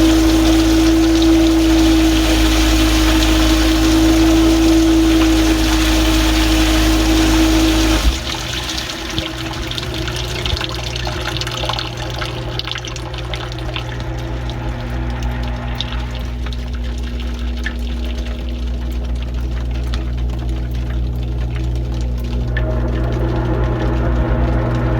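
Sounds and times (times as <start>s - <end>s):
dishwasher pump humming: 0.0s - 24.9s
water spraying and swirling: 0.0s - 24.9s
water trickling and dripping: 0.0s - 24.9s.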